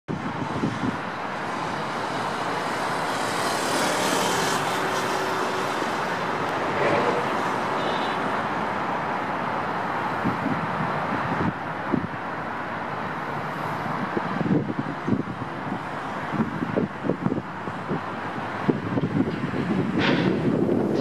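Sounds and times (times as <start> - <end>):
road traffic rushing: 0.1 - 21.0.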